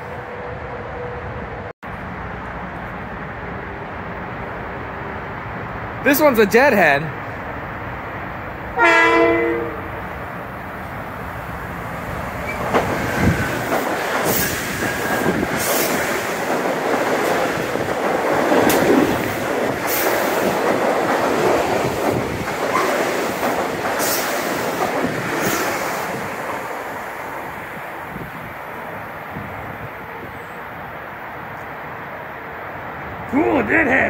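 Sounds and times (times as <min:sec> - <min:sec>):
train passing: 0:00.0 - 0:34.0.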